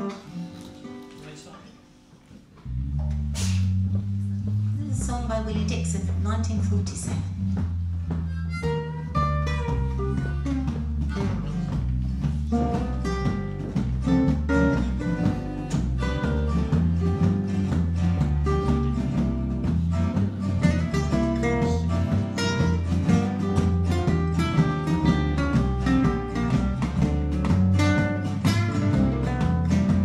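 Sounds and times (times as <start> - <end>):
acoustic guitars strumming: 0.0 - 30.0
low bass notes: 2.6 - 30.0.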